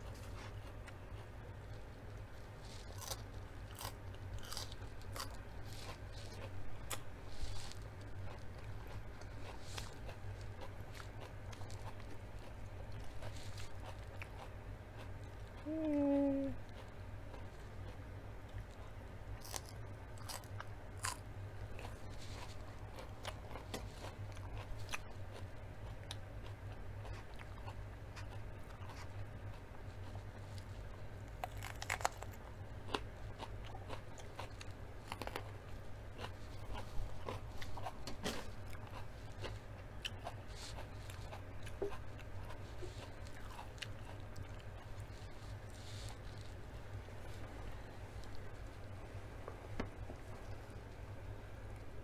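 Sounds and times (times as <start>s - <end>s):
chewing and crunching food: 0.0s - 52.0s
low hum: 0.0s - 52.0s.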